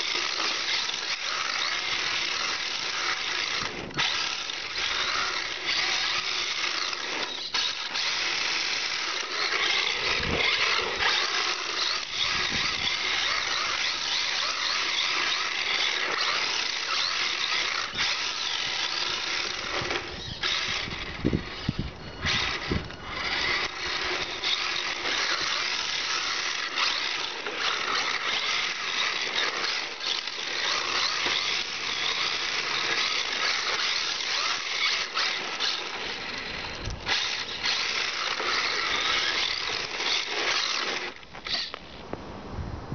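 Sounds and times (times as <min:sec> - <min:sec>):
toy car motor whine: 0:00.0 - 0:42.1.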